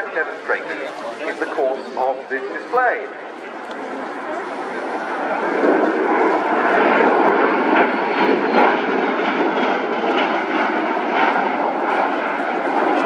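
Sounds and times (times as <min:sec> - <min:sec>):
tiltrotor aircraft flying overhead: 0:00.0 - 0:13.0.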